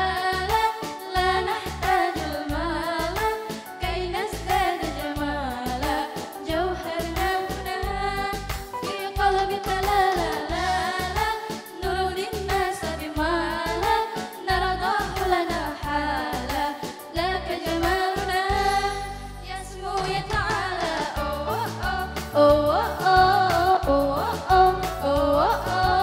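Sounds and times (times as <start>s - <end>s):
electronic keyboard with steady beat: 0.0s - 26.0s
girls singing into microphones: 0.0s - 26.0s.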